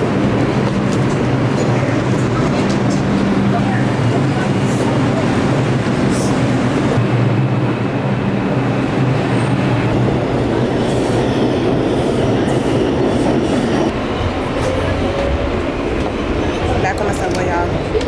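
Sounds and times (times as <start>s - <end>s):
subway train wheels on rails: 0.0s - 18.0s.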